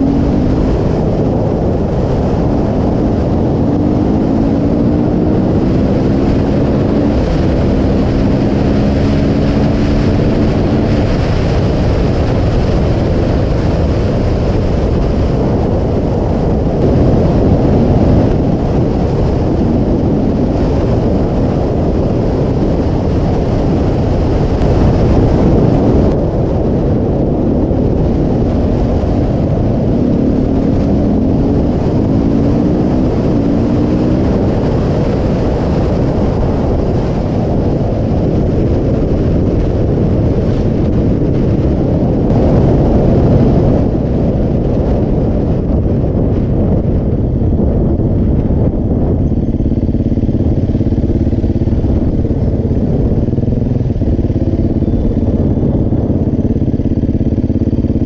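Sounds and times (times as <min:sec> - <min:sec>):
motorcycle engine accelerating: 0:00.0 - 0:58.0
wind rumble on microphone: 0:00.0 - 0:58.0.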